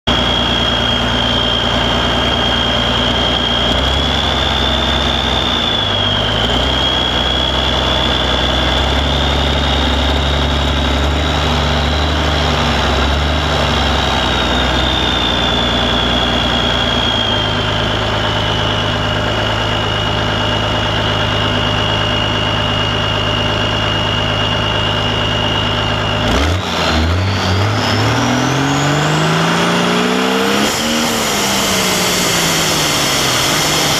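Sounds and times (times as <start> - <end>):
tractor diesel engine idling: 0.0 - 29.9
tractor engine revving up: 0.0 - 33.9
high whine: 0.1 - 33.9.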